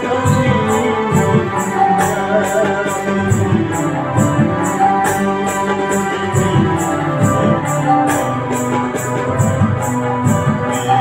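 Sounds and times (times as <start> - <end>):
electronic keyboard melody: 0.0 - 11.0
keyboard rhythm accompaniment: 0.0 - 11.0.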